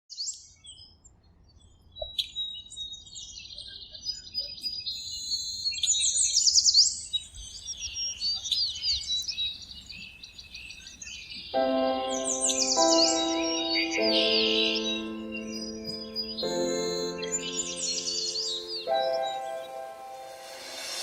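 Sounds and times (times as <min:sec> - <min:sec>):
songbirds chirping and trilling: 0:00.2 - 0:21.0.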